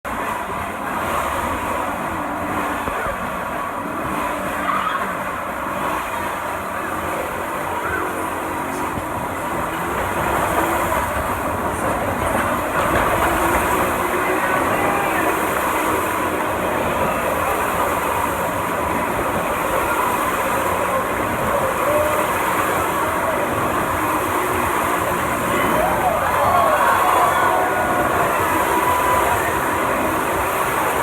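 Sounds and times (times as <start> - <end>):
wheels on track: 0.1 - 31.0.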